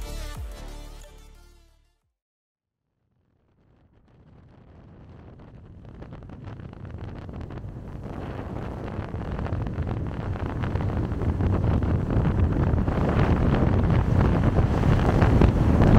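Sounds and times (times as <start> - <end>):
low rumbling noise: 3.0 - 15.9.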